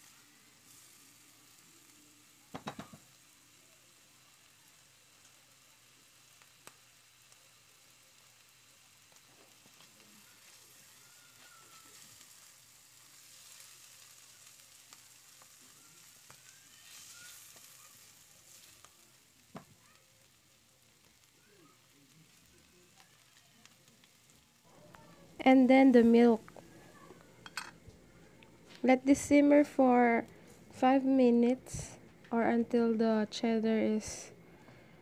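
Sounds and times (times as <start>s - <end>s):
food sizzling in a pan: 0.0s - 35.0s.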